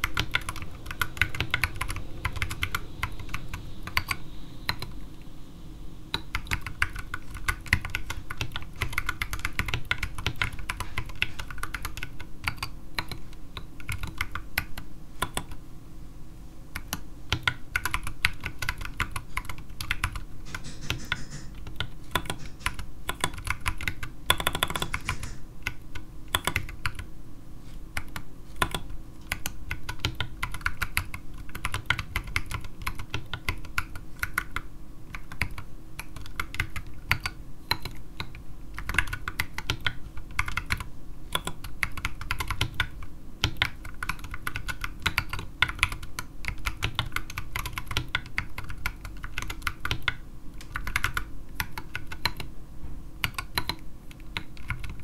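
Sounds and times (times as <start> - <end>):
mechanical keyboard typing: 0.0 - 5.0, 6.1 - 15.6, 16.7 - 27.1, 27.9 - 52.5, 53.2 - 55.0.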